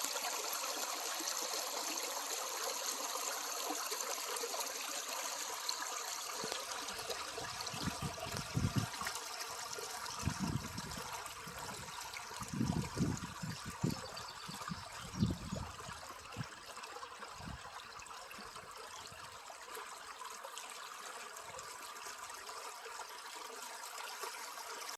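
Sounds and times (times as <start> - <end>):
stream trickling over rocks: 0.0 - 24.9.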